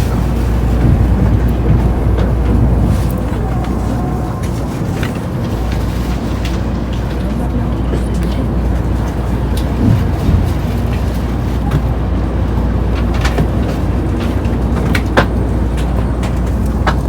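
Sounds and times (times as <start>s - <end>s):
train cabin running rumble: 0.0s - 17.0s.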